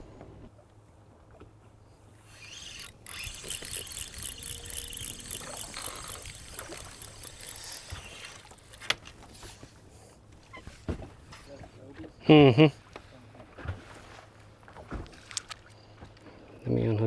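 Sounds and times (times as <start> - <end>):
water splashing and lapping: 0.9 - 12.0, 12.8 - 16.2.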